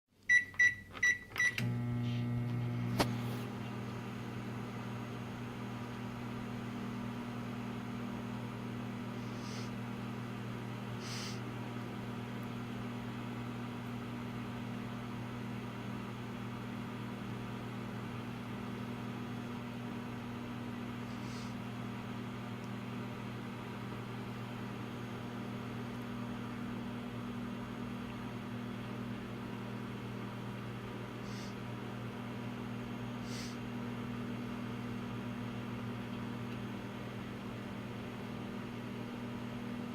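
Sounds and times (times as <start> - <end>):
microwave oven humming: 0.2 - 39.9.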